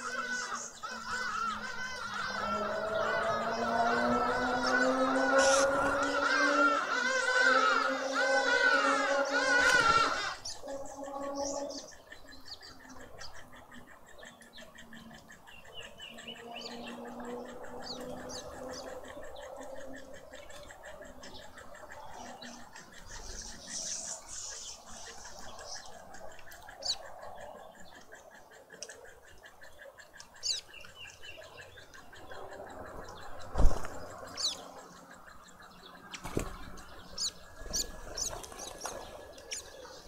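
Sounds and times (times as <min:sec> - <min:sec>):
small birds chirping and whistling: 0:00.0 - 0:40.0.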